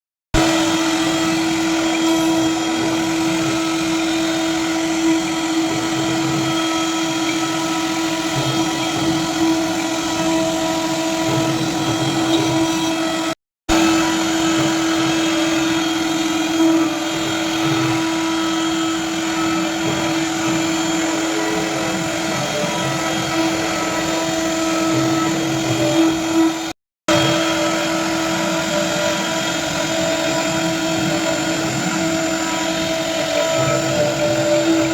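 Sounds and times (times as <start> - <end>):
machine motor whine over hum: 0.4 - 34.9.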